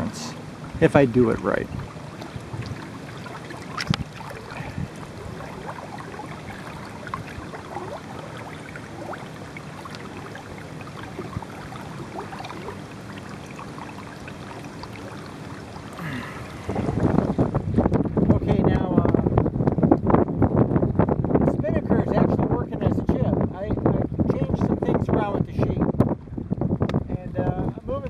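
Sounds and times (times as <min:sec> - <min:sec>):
water gurgling along hull: 0:00.0 - 0:28.0.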